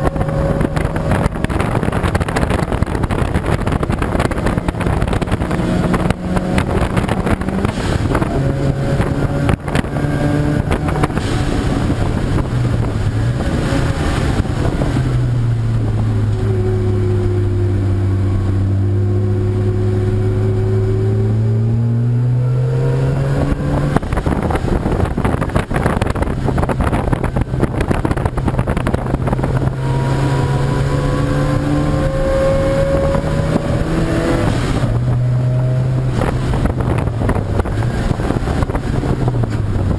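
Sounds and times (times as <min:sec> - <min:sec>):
racing car engines: 0:00.0 - 0:39.9
wind buffeting microphone: 0:00.0 - 0:39.9.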